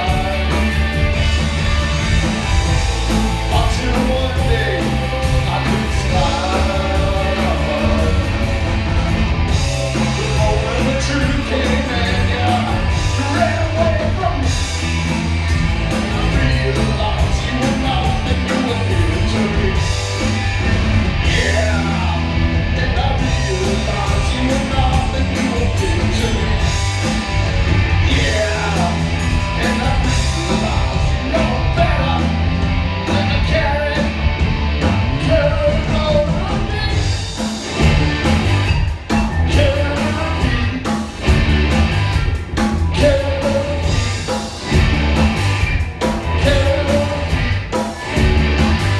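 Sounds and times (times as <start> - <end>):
bass guitar: 0.0 - 48.9
drum kit: 0.0 - 48.9
electric guitar: 0.0 - 48.9.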